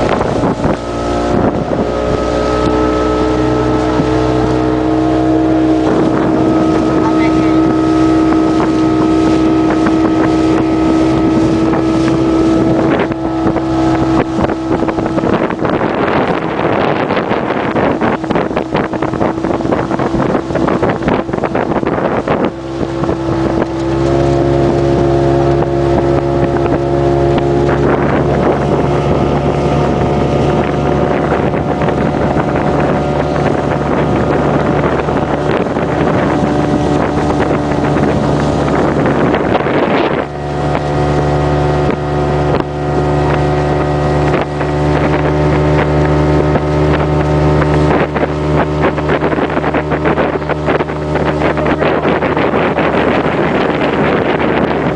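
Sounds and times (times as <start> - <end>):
motorboat engine running: 0.0 - 54.9
water noise: 0.0 - 54.9
wind: 0.0 - 54.9.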